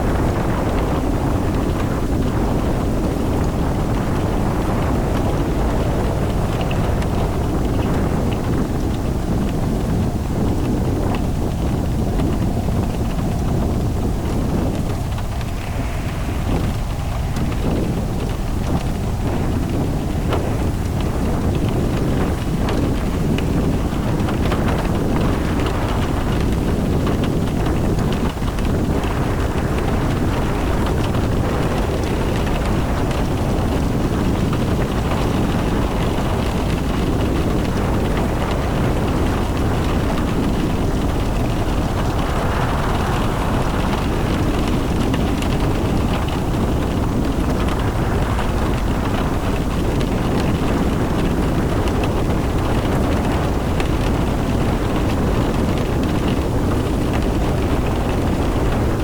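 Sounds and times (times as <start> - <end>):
rain hissing: 0.0 - 59.0
road and engine rumble: 0.0 - 59.0.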